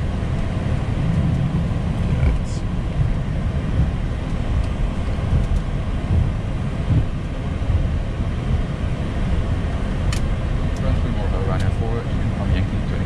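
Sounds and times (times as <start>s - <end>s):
airliner cockpit rumble and hiss: 0.0s - 13.0s.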